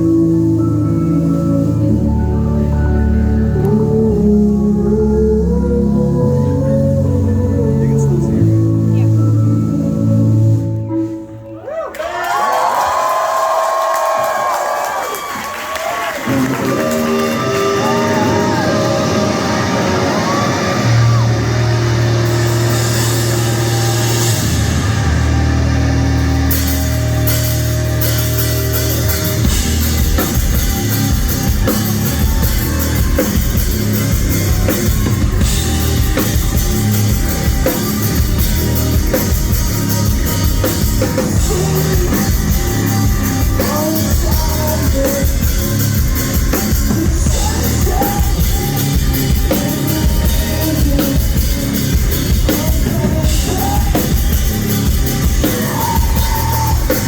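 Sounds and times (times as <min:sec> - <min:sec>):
person singing: 0:00.0 - 0:11.6, 0:16.2 - 0:57.0
live rock band playing: 0:00.0 - 0:11.7, 0:13.8 - 0:57.0
drums: 0:00.0 - 0:57.0.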